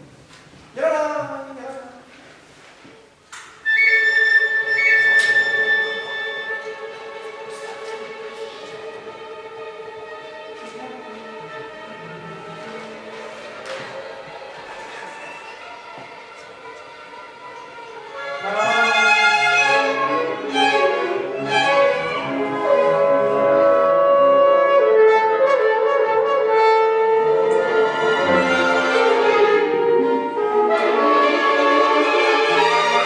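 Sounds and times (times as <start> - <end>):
small orchestra playing: 3.5 - 33.0.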